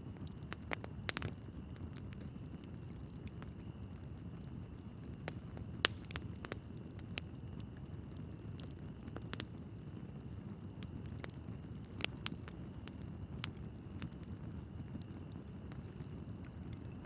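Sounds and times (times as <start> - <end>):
fire flames rustling: 0.0 - 17.0
logs crackling and popping: 0.0 - 17.0.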